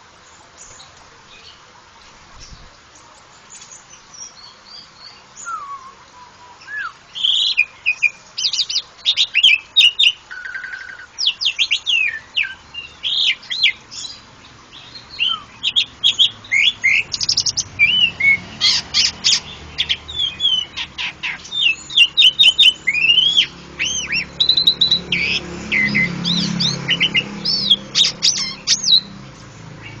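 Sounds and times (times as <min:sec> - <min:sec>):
starling singing: 0:04.3 - 0:30.0.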